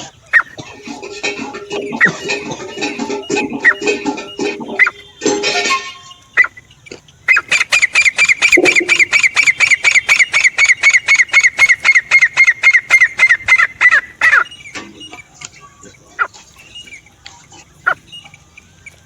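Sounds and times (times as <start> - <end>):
francolin calling: 0.0 - 19.0.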